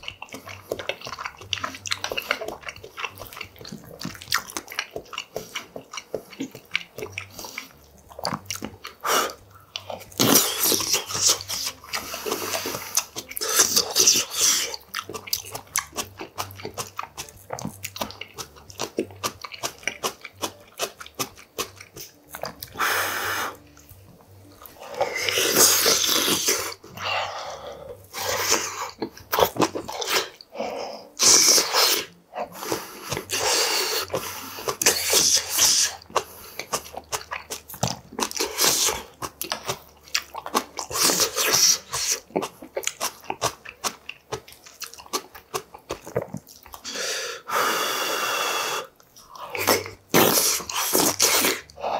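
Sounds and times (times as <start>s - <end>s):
man chewing food: 0.0s - 51.9s.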